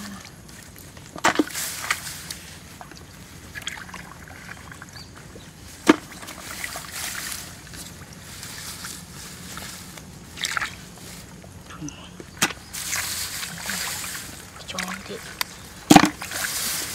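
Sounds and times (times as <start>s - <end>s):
water sloshing and splashing: 0.0s - 16.9s.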